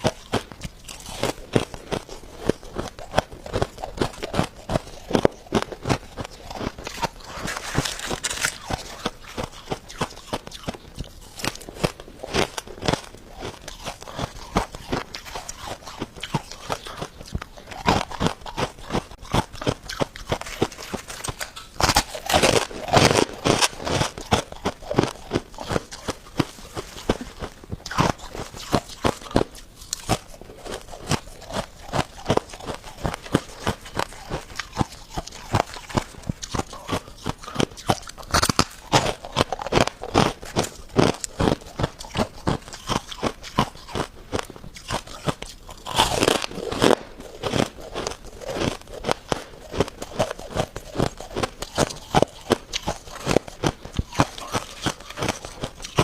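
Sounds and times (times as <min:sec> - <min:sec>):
frost being chewed with crunches: 0:00.0 - 0:56.0.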